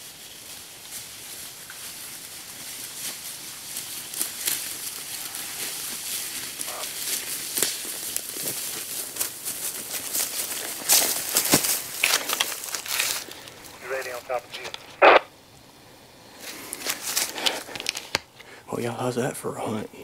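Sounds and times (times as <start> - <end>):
footsteps crunching through dry leaves: 0.0 - 15.0, 16.3 - 18.3.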